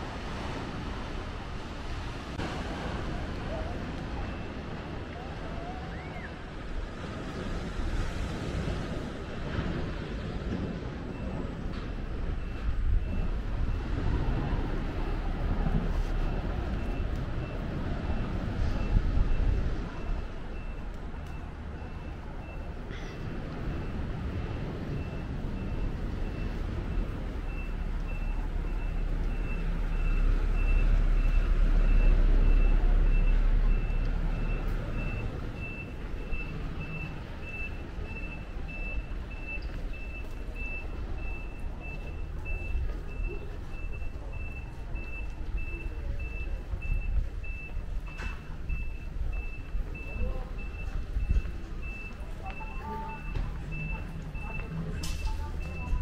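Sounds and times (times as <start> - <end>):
motor vehicle rumble: 0.0 - 56.0.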